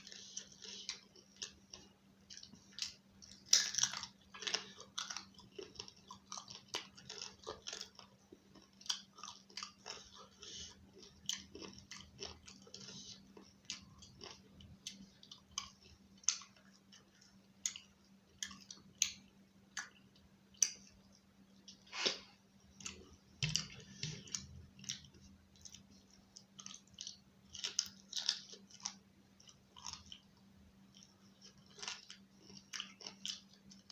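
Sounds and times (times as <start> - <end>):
chewing mouth clicks and smacks: 0.0 - 21.0, 21.6 - 30.3, 30.9 - 33.9
faint steady hum: 0.0 - 33.9.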